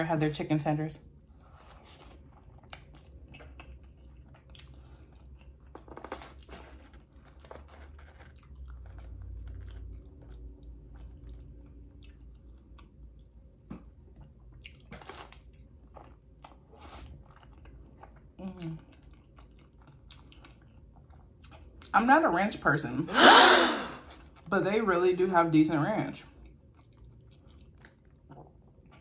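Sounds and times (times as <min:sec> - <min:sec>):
close chewing of fries: 0:01.0 - 0:22.0, 0:23.8 - 0:24.5, 0:26.2 - 0:29.0.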